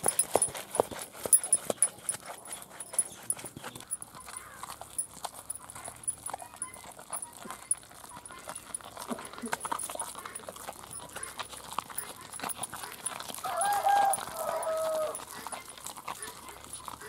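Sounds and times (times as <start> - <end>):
stone grinder turning in batter: 0.0 - 17.0.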